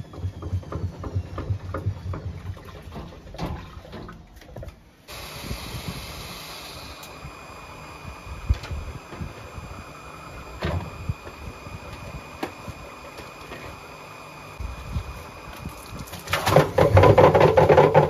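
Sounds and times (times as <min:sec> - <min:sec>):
water rushing into washing machine: 0:00.0 - 0:18.0.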